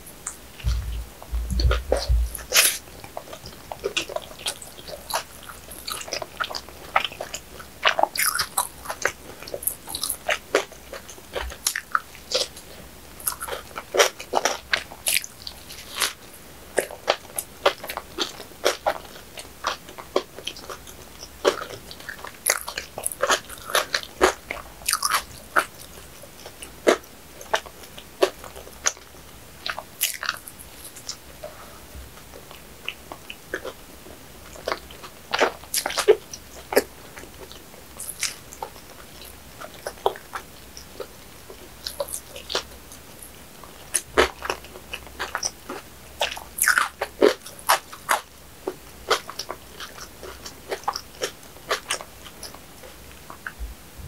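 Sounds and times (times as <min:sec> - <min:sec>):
chewing with wet mouth clicks: 0:00.2 - 0:12.6, 0:13.2 - 0:16.2, 0:16.8 - 0:31.2, 0:32.2 - 0:53.6.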